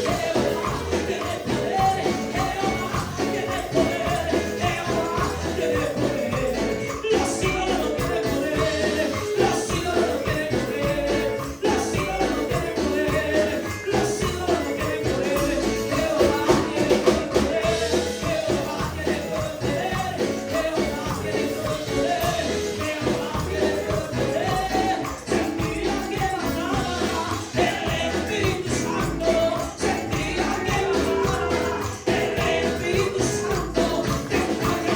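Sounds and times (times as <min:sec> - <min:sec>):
people singing over a band: 0:00.0 - 0:34.9
tambourine beat: 0:00.0 - 0:34.9.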